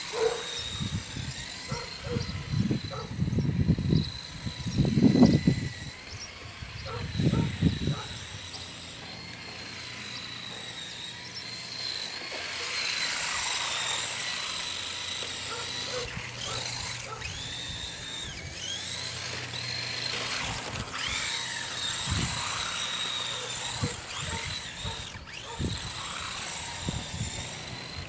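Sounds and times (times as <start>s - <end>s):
rc car motor whining: 0.0s - 28.0s.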